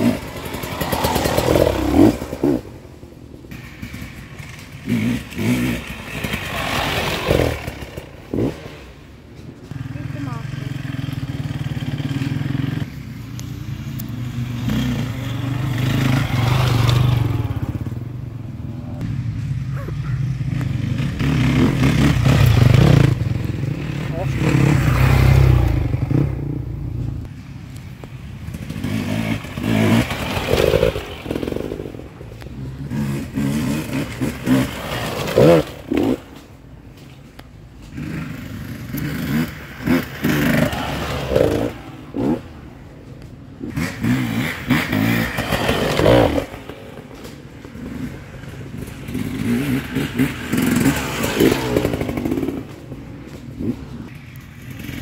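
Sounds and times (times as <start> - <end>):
dirt bikes revving past: 0.0 - 27.6, 28.2 - 37.2, 37.8 - 55.0.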